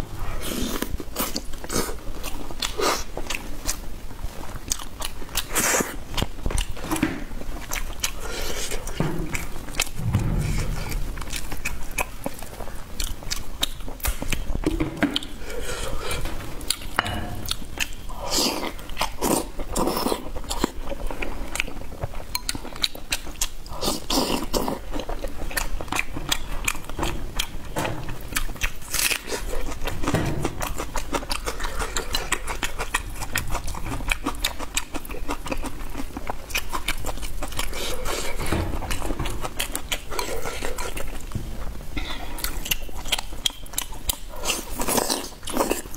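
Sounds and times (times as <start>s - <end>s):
person chewing crunchy food: 0.0s - 10.0s, 11.2s - 45.9s.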